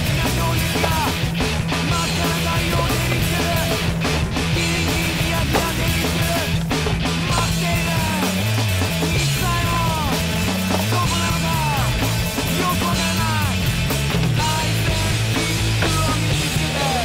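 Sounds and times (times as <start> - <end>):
electric guitar bending notes: 0.0 - 17.0
punk rock music: 0.0 - 17.0.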